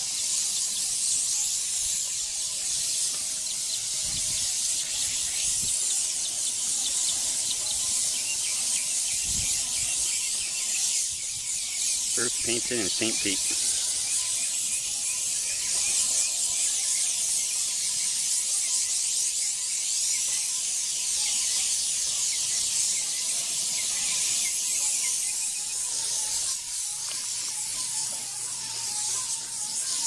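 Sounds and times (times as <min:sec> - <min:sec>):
paint sprayer hissing: 0:00.0 - 0:30.0.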